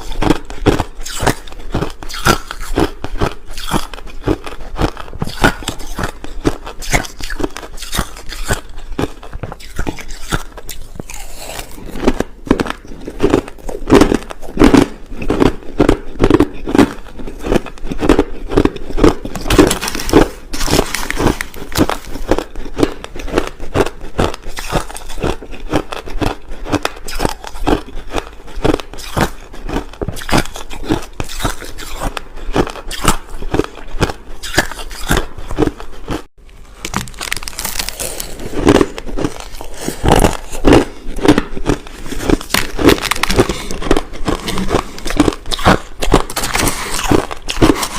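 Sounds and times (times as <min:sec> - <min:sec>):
crushed ice being chewed: 0:00.0 - 0:47.9.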